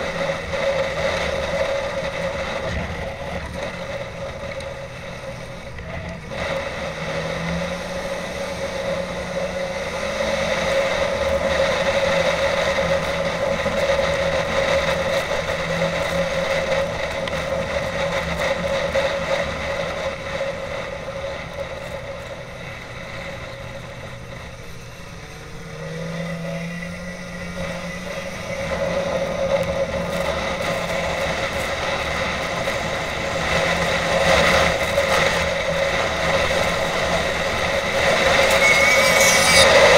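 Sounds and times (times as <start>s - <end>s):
snowmobile engine drone: 0.0s - 39.9s.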